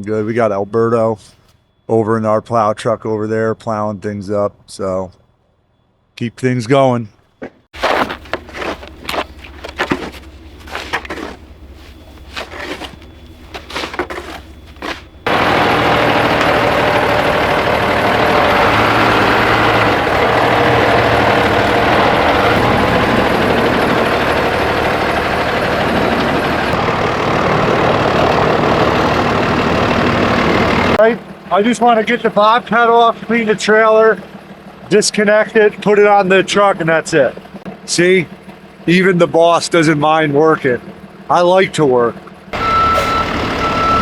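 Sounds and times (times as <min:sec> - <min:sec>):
vehicle engine rumbling: 0:07.4 - 0:44.0
loud engine and machinery noise: 0:07.8 - 0:44.0.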